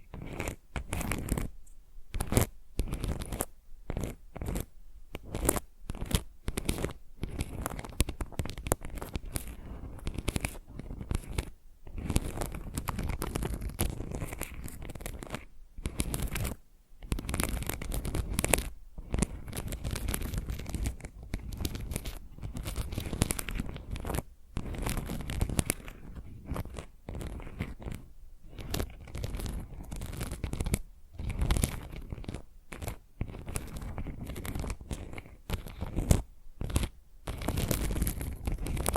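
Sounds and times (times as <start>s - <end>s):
fingernails scratching tile: 0.0s - 38.9s.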